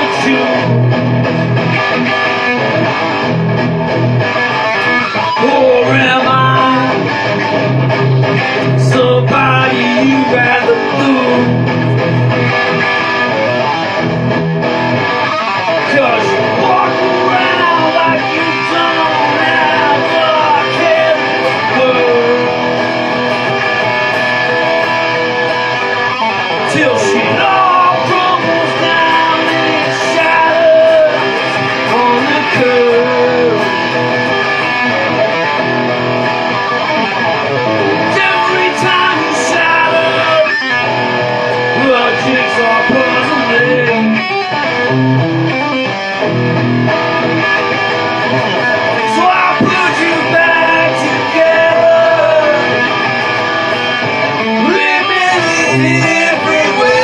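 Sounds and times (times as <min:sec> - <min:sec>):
electric guitar bending notes: 0:00.0 - 0:57.0
rock band music: 0:00.0 - 0:57.0.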